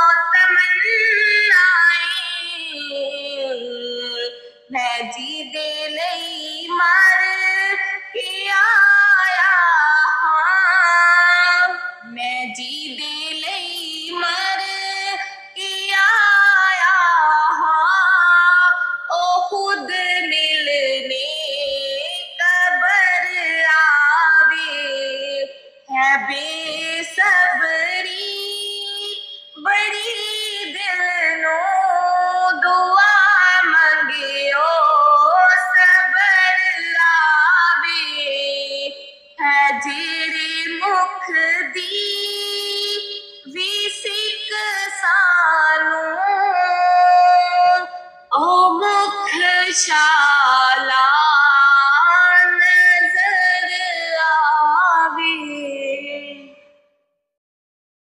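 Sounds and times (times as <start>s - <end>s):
person singing solo unaccompanied: 0.0s - 56.5s.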